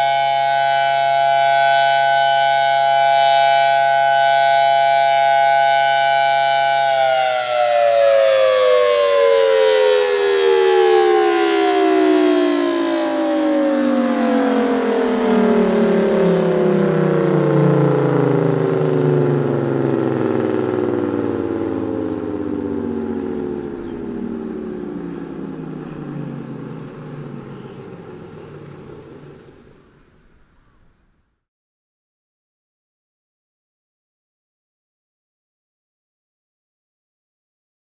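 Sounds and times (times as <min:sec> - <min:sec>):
air raid siren winding down: 0:00.0 - 0:31.1.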